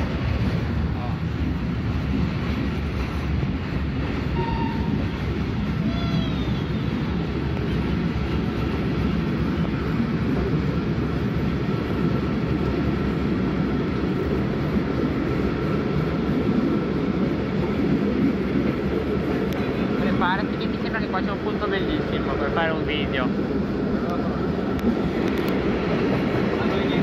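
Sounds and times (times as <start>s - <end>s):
rumble of wheels on rails: 0.0s - 27.0s.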